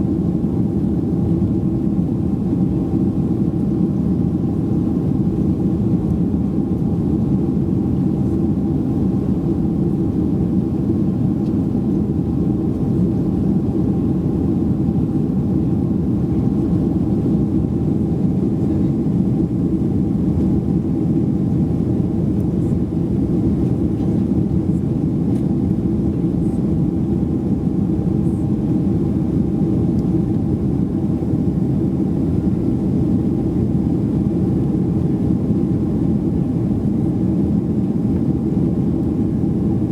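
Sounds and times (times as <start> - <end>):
airplane cabin engine drone: 0.0 - 39.9
faint steady whine: 0.0 - 39.9.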